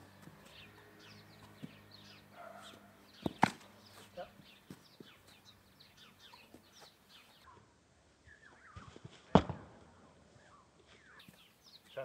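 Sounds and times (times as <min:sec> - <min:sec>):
birds chirping: 0:00.0 - 0:09.1, 0:09.9 - 0:12.0.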